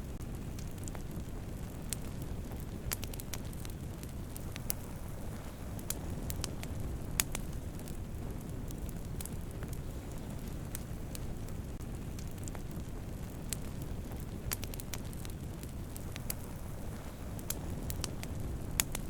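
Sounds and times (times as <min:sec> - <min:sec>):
fire crackles and pops: 0:00.0 - 0:19.0
rush of fire flames: 0:00.0 - 0:19.0.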